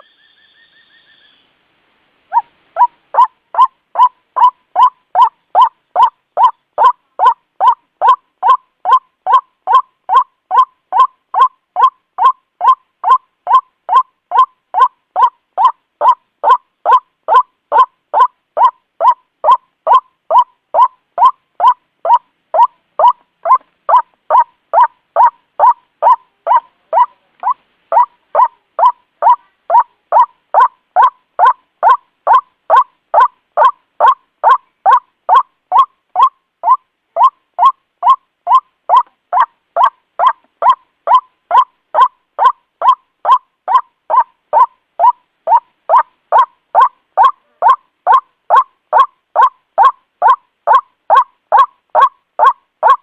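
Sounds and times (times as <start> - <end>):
waterhen calling: 2.3 - 53.0.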